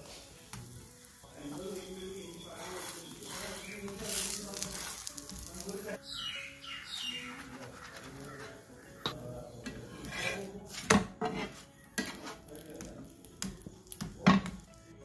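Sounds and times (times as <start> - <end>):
metal spatula scraping a griddle: 0.0 - 6.0, 6.8 - 13.1.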